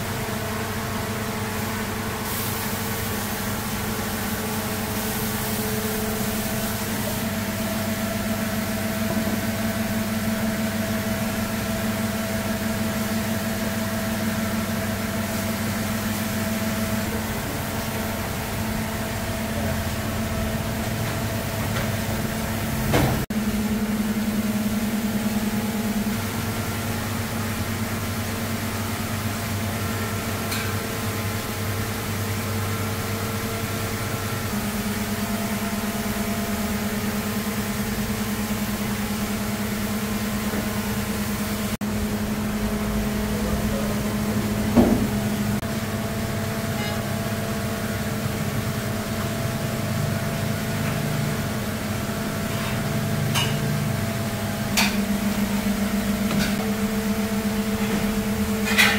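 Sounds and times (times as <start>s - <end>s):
kitchen machinery humming: 0.0s - 58.9s.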